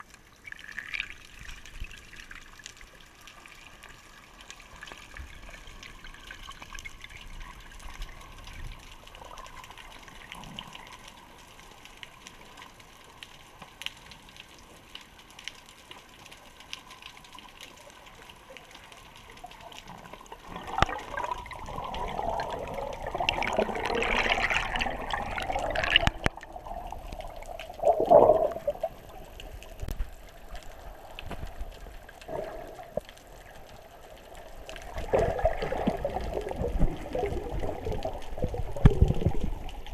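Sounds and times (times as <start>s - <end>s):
rushing and bubbling water: 0.0s - 12.8s, 16.7s - 39.9s
muffled underwater water noise: 0.0s - 39.9s.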